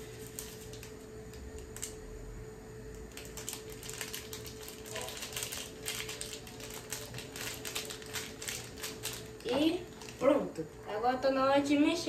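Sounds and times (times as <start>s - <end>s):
paper sachet crinkling and tapping: 0.0s - 2.0s, 2.9s - 10.7s
steady hum: 0.0s - 12.0s.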